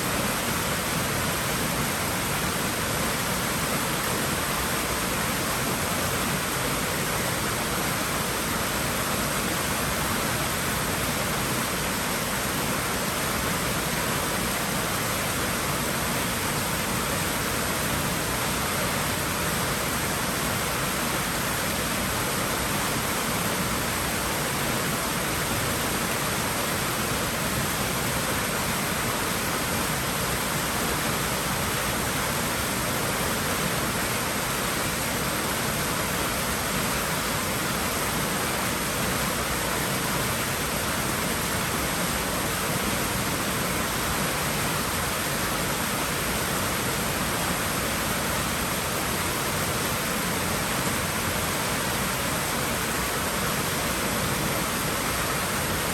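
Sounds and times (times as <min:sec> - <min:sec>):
water rushing in swimming pool: 0:00.0 - 0:55.9.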